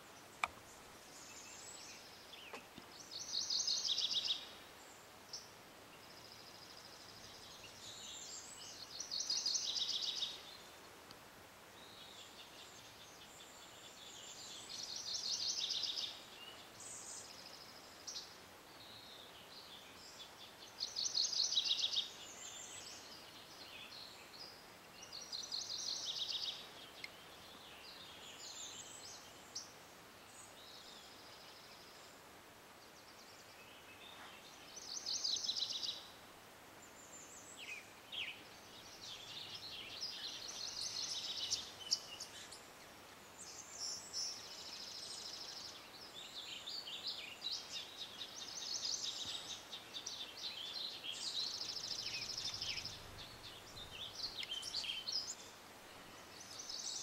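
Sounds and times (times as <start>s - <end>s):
birds chirping: 0.0s - 11.0s, 11.8s - 32.2s, 36.8s - 57.0s
faint steady hiss: 0.0s - 57.0s.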